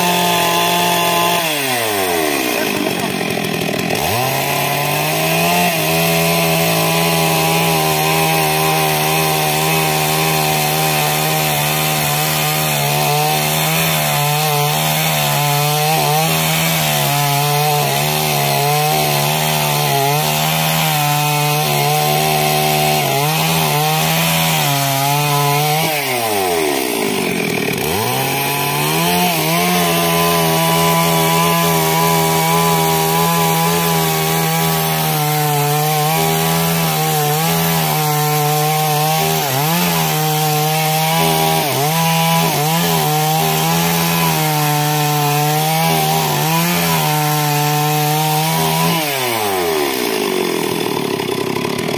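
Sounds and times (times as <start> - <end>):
chainsaw running at high speed: 0.0 - 51.9.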